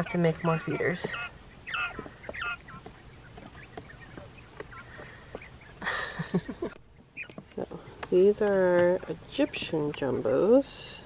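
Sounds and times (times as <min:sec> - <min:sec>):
quail chicks peeping: 0:00.0 - 0:11.0.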